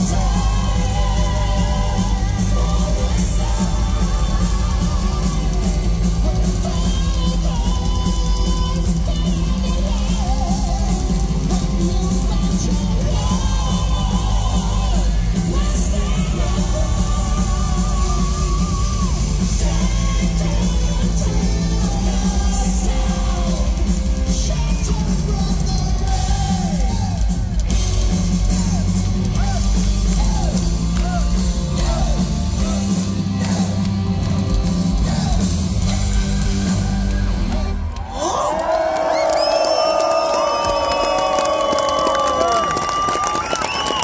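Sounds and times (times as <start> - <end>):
live metal band playing: 0.0 - 38.2.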